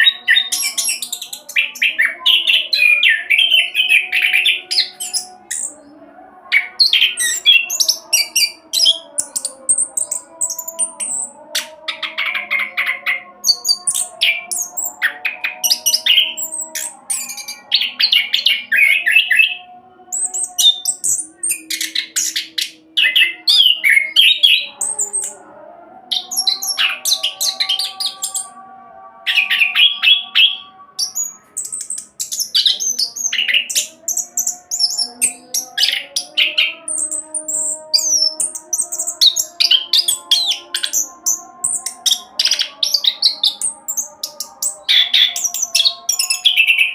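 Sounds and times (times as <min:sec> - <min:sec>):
thrush singing: 0:00.0 - 0:46.9.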